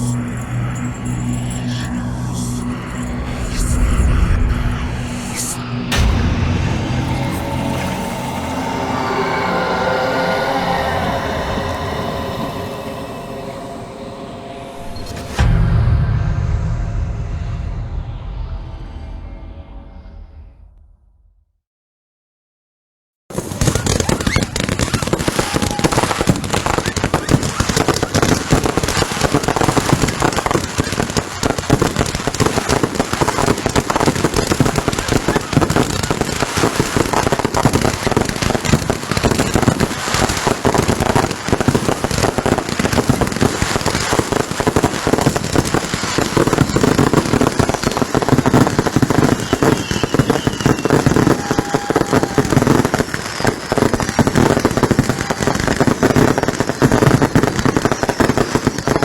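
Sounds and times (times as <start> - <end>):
fireworks bangs and crackling: 0.0 - 12.4, 14.8 - 17.9, 23.3 - 59.0.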